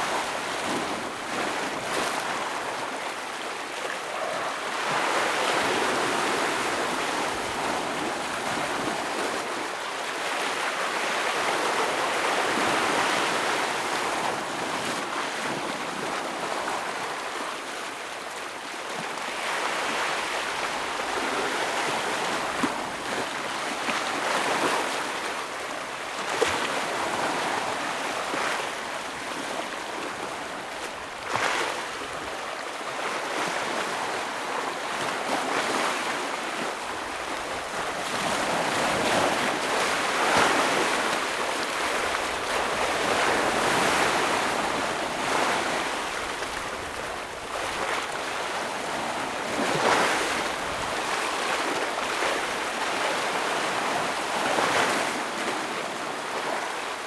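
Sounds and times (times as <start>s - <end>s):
ocean waves breaking on rocks: 0.0s - 17.2s, 19.4s - 57.0s.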